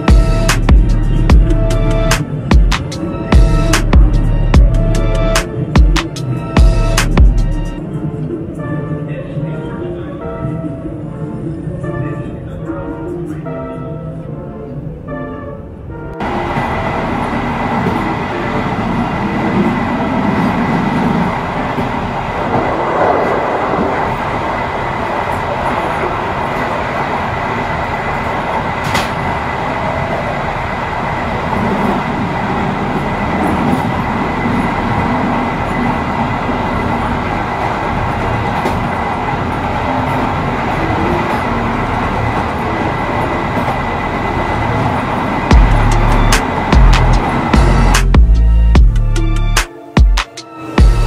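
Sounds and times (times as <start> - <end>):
train wheels rumbling on rails: 0.0 - 13.6, 16.1 - 51.0.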